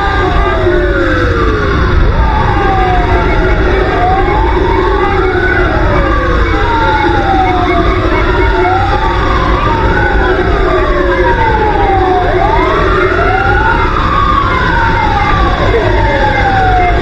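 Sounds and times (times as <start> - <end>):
fire truck sirens wailing: 0.0 - 17.0.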